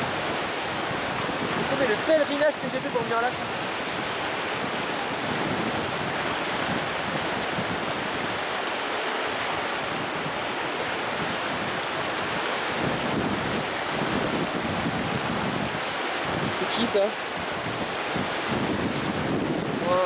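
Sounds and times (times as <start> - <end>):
river rapids rushing: 0.0 - 20.0.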